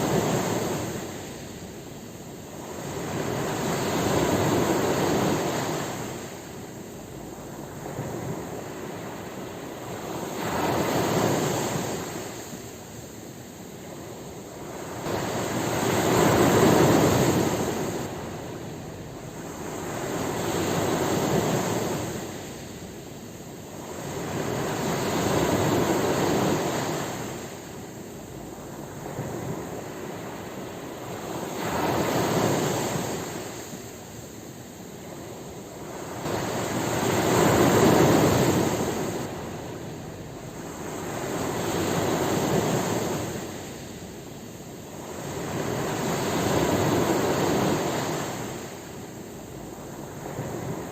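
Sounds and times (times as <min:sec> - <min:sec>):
ocean waves breaking: 0:02.5 - 0:50.9.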